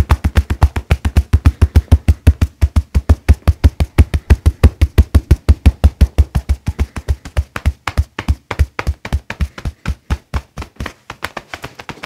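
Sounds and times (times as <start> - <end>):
hands drumming on back: 0.0 - 12.0.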